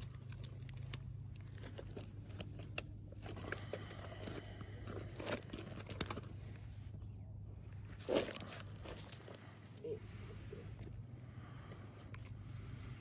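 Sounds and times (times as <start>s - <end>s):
handling clicks and crunching: 0.0s - 9.9s, 10.6s - 13.0s
steady low hum: 0.0s - 13.0s.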